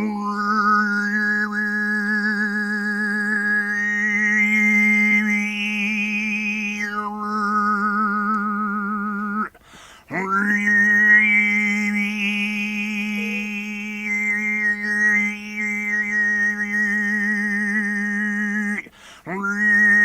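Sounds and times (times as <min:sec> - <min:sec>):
throat singing drone: 0:00.0 - 0:20.0.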